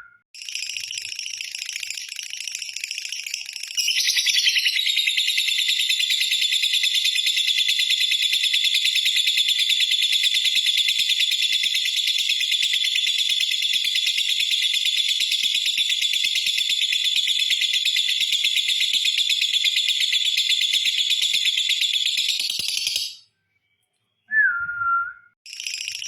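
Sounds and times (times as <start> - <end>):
lovebird rattling trill: 0.4 - 23.2, 25.5 - 26.0.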